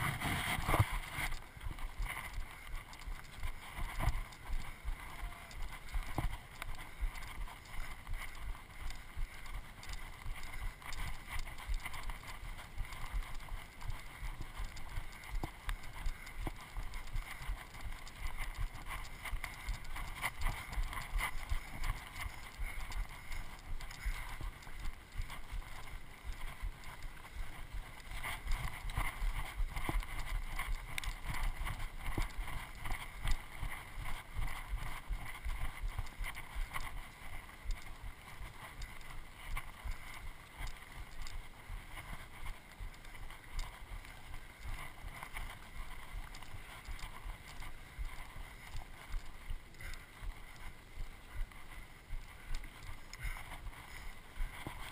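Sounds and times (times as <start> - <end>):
footsteps on dirt trail: 0.0 - 54.9.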